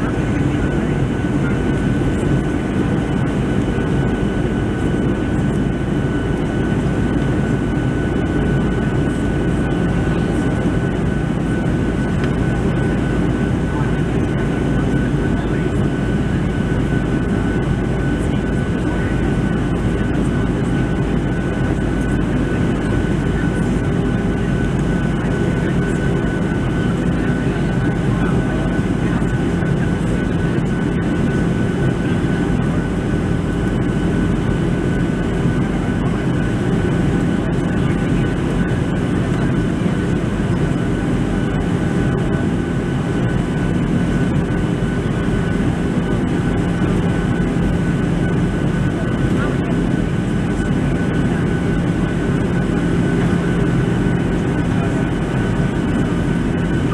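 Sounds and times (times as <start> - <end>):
airplane cabin engine noise: 0.0 - 56.9
constant low hum: 0.0 - 56.9.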